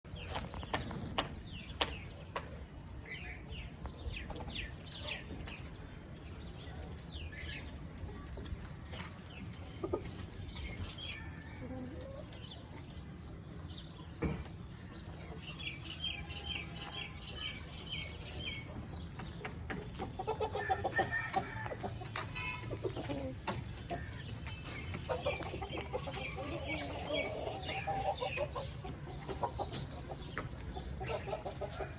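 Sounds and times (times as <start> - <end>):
chickens clucking: 0.1 - 31.9.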